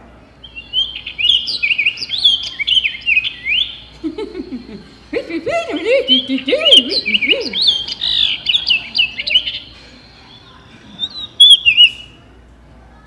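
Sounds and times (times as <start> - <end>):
recorded birdsong from speaker: 0.2 - 3.9, 5.6 - 12.4.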